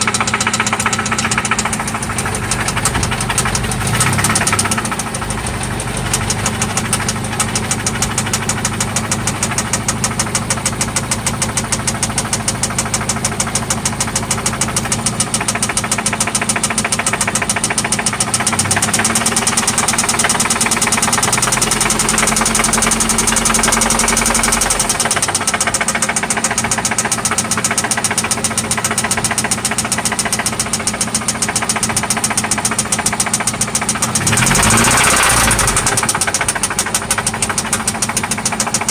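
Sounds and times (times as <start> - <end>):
car engine idling: 0.0 - 38.9
engine knock: 0.0 - 38.9.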